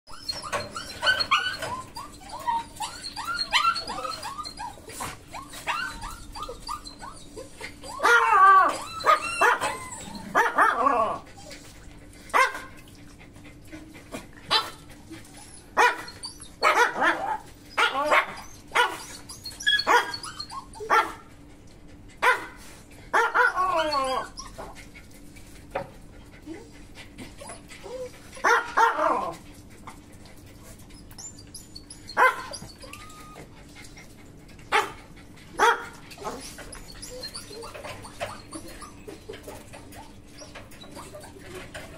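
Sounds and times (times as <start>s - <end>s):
dogs barking and yipping: 0.1s - 41.9s.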